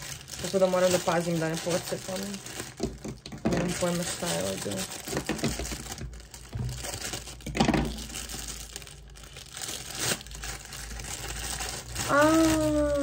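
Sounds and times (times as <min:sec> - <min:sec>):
plastic mailer bag crinkling and tearing: 0:00.0 - 0:13.0.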